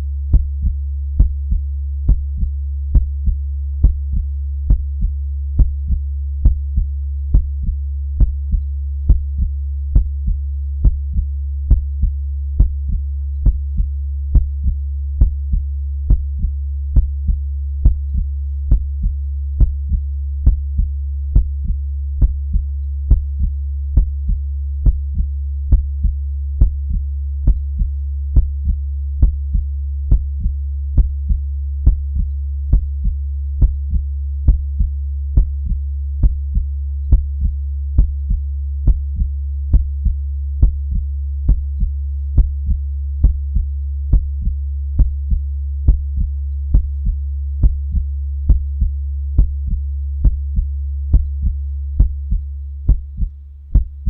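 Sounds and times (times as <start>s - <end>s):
heartbeat: 0.0s - 54.0s
low hum: 0.0s - 54.0s.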